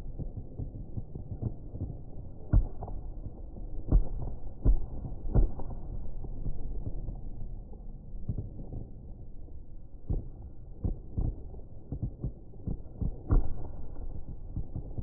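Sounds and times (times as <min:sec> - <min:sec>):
rumble of small firework bursts: 0:00.0 - 0:15.0.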